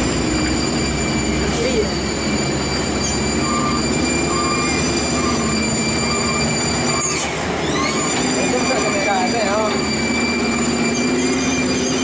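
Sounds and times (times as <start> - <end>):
high-pitched whine: 0.0 - 12.0
truck engine rumble: 0.0 - 12.0.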